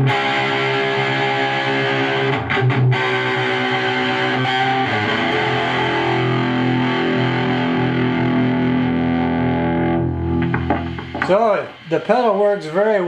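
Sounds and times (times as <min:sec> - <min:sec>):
distorted electric guitar chord: 0:00.0 - 0:12.0.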